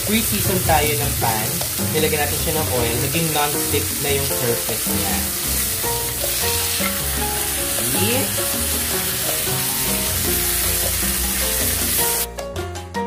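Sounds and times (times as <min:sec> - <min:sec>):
steak sizzling in a skillet: 0:00.0 - 0:12.3
background music: 0:00.0 - 0:13.0.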